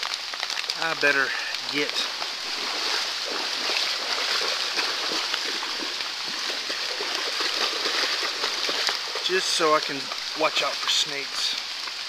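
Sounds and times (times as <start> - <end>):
rain falling on water: 0.0 - 12.0.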